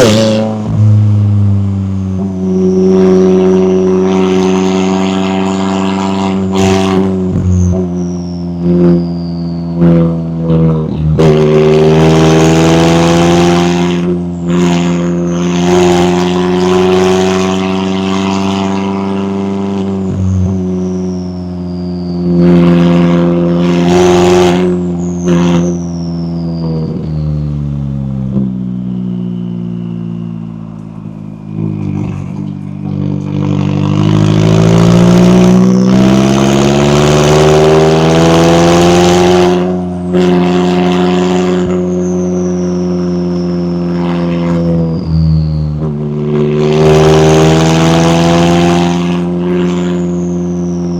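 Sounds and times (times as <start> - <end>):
sports car engine accelerating: 0.0 - 50.9.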